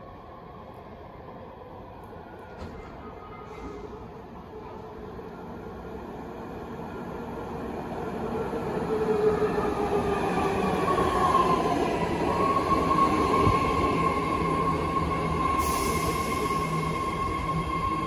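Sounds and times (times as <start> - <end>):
subway train pulling in: 0.0 - 18.0.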